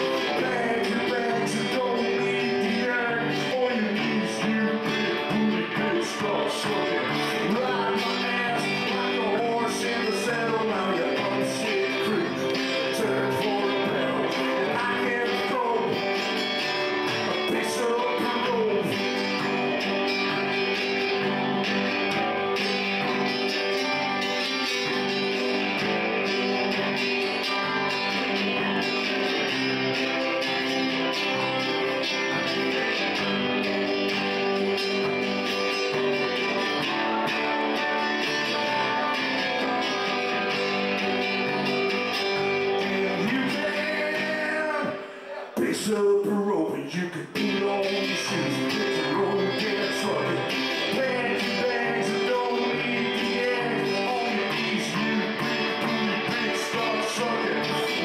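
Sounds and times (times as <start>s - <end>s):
live country band: 0.0s - 58.0s.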